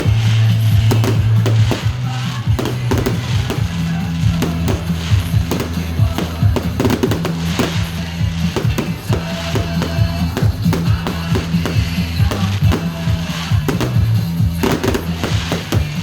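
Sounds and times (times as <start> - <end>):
fireworks cracking and banging: 0.0 - 16.0
loud music with deep bass: 0.0 - 16.0.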